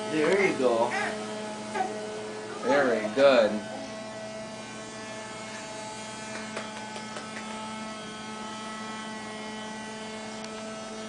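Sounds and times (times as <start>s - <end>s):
vacuum cleaner motor humming: 0.0s - 11.0s.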